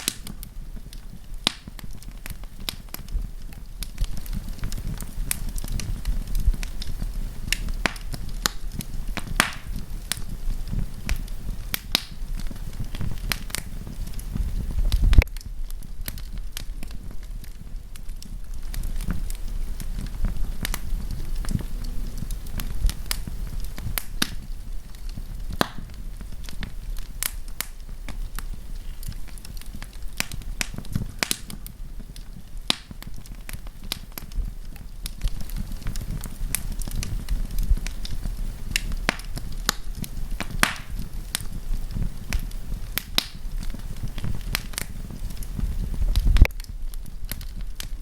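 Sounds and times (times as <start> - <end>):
campfire pops and snaps: 0.0 - 48.0
low rumble of flame: 0.0 - 48.0.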